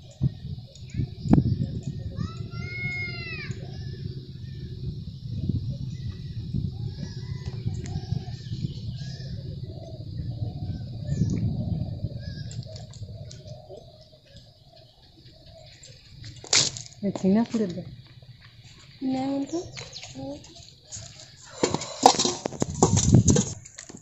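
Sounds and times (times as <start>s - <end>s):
low steady rumble: 0.0s - 23.6s
birds calling: 0.0s - 24.0s.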